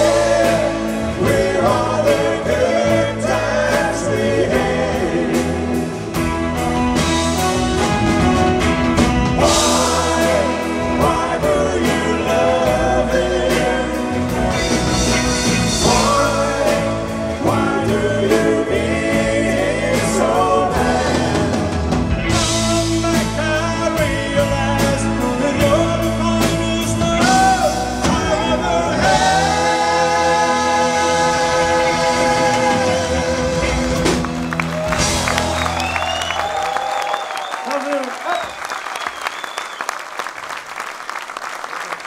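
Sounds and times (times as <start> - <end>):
lead vocal singing: 0.0 - 37.4
live pop band playing: 0.0 - 38.5.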